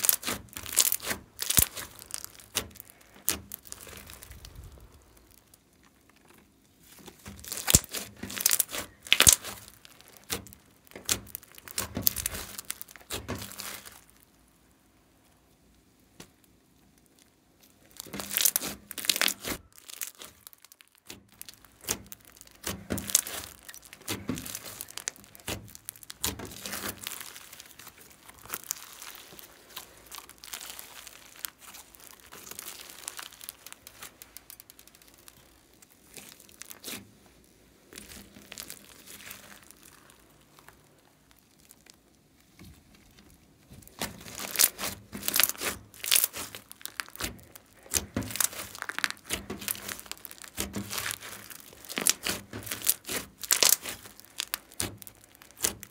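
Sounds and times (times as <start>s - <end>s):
slime crackling and popping: 0.0s - 55.9s.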